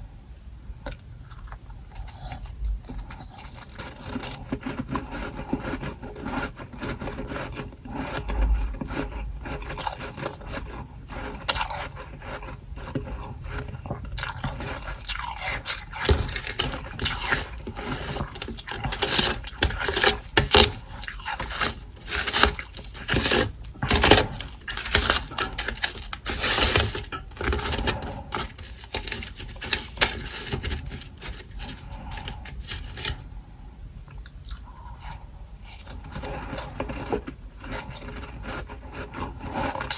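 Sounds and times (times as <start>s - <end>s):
frost scraping and crunching: 1.3s - 33.4s, 34.5s - 39.9s.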